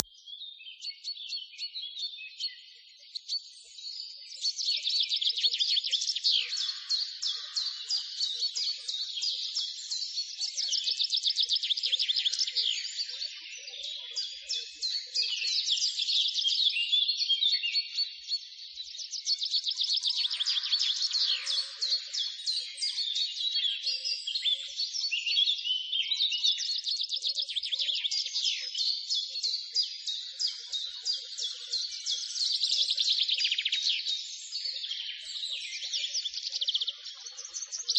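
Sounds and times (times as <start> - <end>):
small songbirds chirping and trilling: 0.0 - 37.9.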